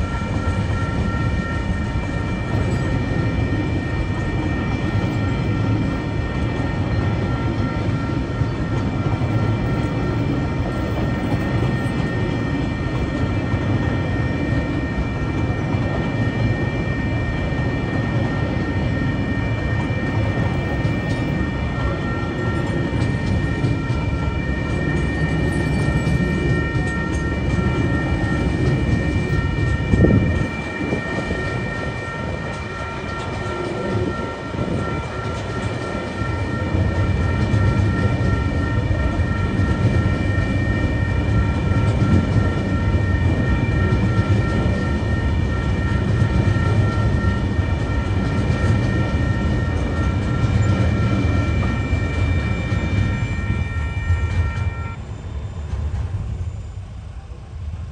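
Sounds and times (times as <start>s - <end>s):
level crossing warning bell: 0.0s - 55.1s
train wheels rumbling on rail: 0.0s - 57.9s.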